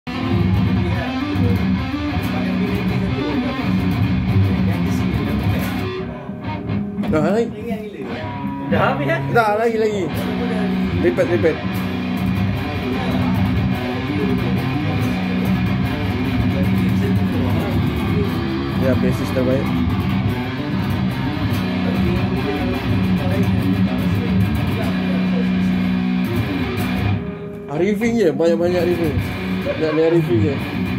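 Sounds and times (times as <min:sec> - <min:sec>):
heavy metal electric guitar riff: 0:00.1 - 0:30.9.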